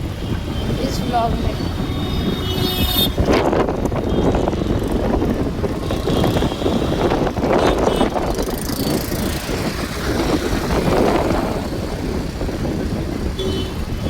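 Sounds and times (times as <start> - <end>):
road and traffic noise: 0.0 - 14.0
wind rushing over microphone: 0.0 - 14.0.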